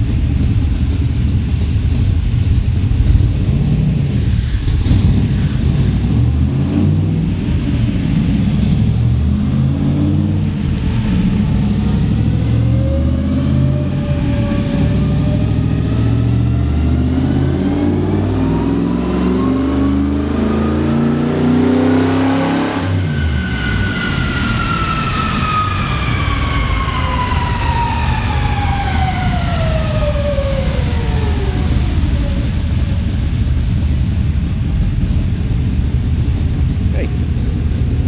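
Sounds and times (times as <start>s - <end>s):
drivetrain whine falling in pitch: 0.0s - 36.5s
race car engine at full throttle: 0.0s - 38.0s.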